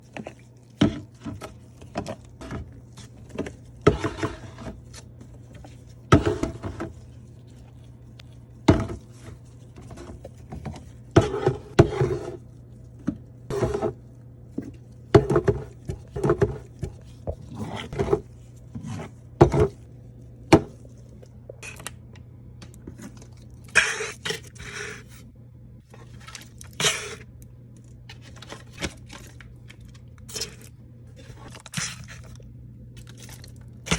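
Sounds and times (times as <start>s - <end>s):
scraping and rustling: 0.0s - 21.9s, 25.9s - 32.4s
steady low hum: 0.0s - 33.9s.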